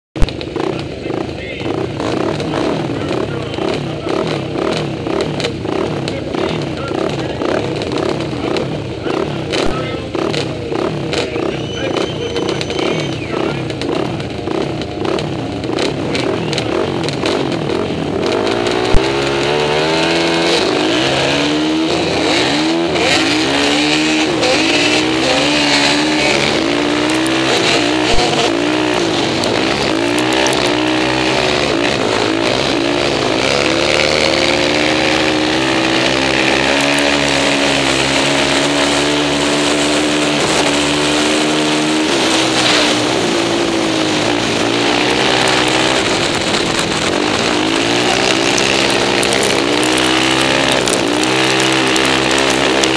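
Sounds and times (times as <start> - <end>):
quad bike engine accelerating: 0.2 - 52.9.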